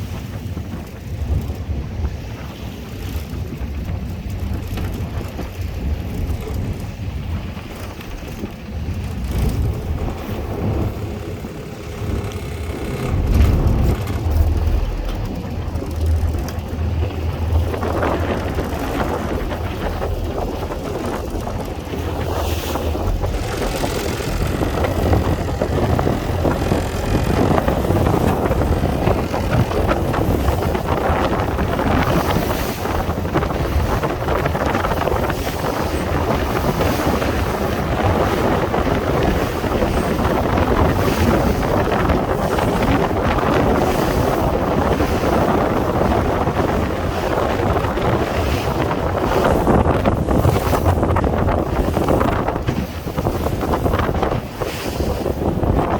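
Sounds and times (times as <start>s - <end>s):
sea waves: 0.0s - 55.9s
wind buffeting microphone: 0.0s - 55.9s.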